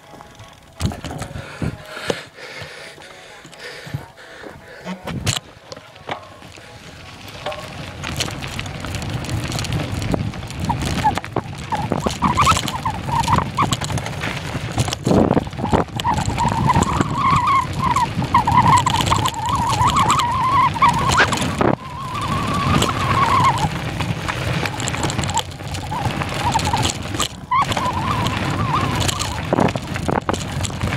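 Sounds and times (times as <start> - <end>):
bike rattling and knocking: 0.0 - 2.7, 4.8 - 30.9
bike tyres rumbling on trail: 0.0 - 30.9
brake squeal: 3.4 - 30.9.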